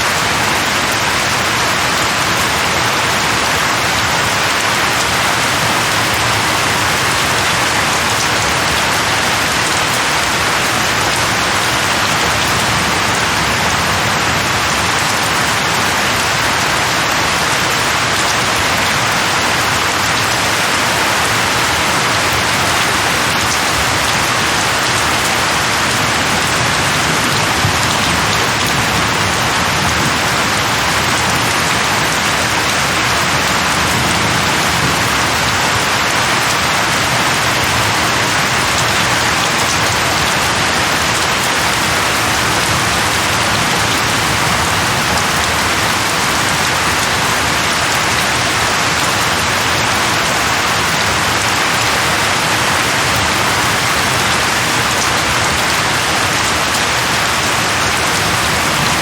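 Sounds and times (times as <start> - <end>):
rain drops hitting a surface: 0.0 - 59.0.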